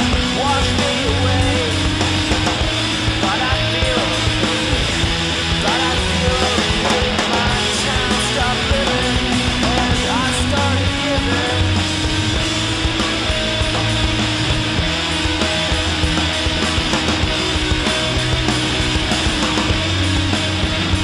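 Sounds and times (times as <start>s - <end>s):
rock music with distorted guitars: 0.0s - 21.0s.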